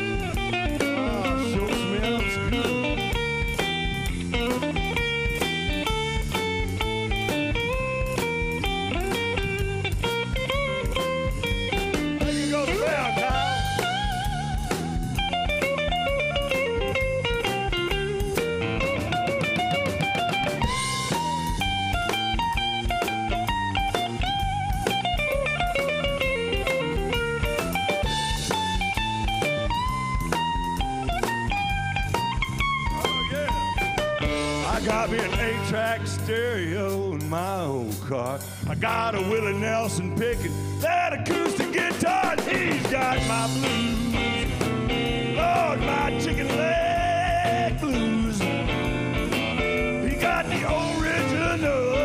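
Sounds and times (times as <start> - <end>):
electric guitar solo: 0.0 - 35.9, 41.9 - 52.0
drum kit: 0.0 - 52.0.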